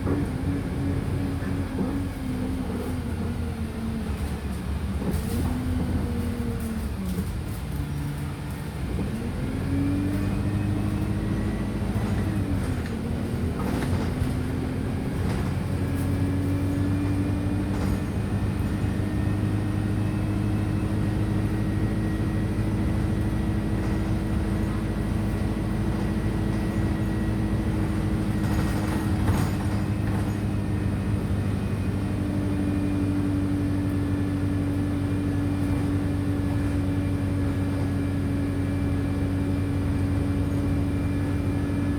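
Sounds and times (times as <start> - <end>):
bus engine driving: 0.0 - 41.9.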